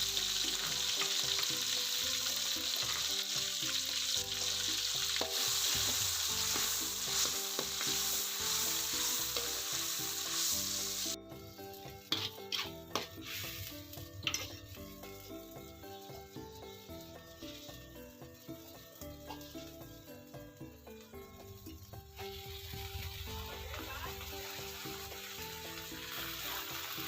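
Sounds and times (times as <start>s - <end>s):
leaves sizzling in a hot pan: 0.0s - 27.0s.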